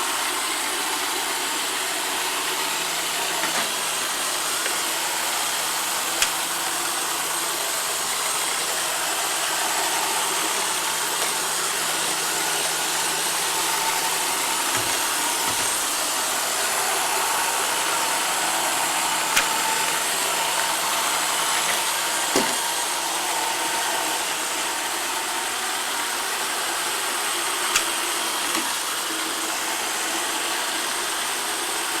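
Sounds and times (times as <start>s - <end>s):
robot vacuum whirring: 0.7s - 32.0s.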